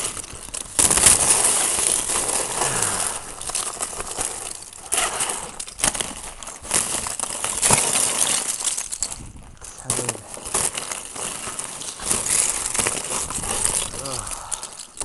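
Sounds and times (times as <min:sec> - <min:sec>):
ice crackling and crunching: 0:00.0 - 0:15.0.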